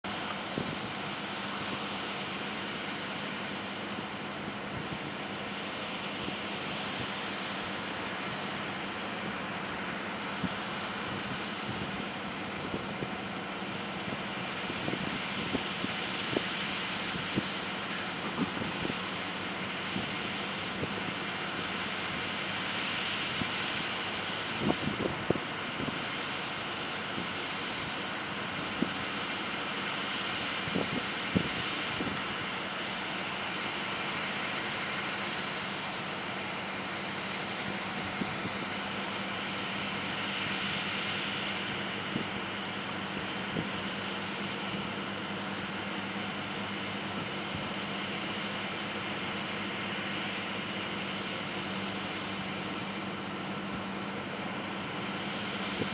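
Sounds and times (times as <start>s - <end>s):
heavy diesel engines running: 0.0s - 55.9s.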